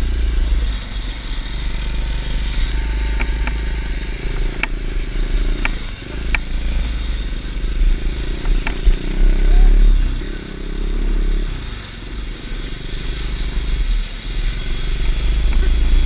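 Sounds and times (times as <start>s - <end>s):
motorbike engine running: 0.0s - 16.0s
rattling clicks over rough track: 0.0s - 16.0s.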